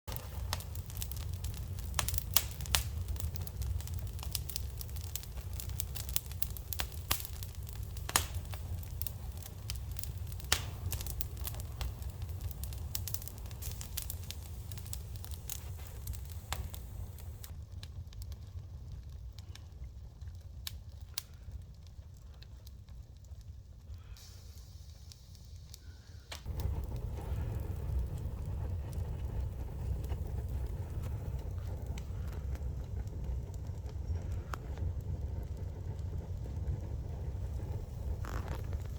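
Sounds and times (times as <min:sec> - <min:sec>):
fire crackling and popping: 0:00.1 - 0:38.9
low fire rumble: 0:00.1 - 0:38.9.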